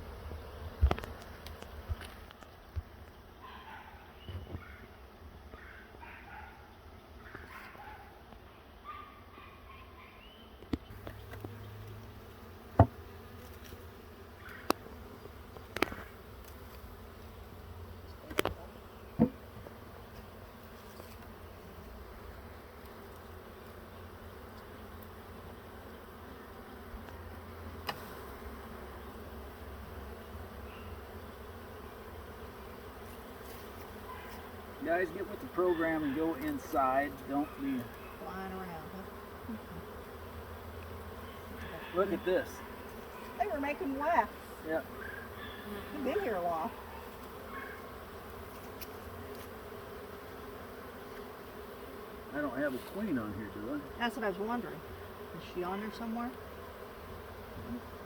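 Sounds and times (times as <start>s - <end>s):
bee swarm buzzing: 0.0s - 6.0s, 9.5s - 58.0s.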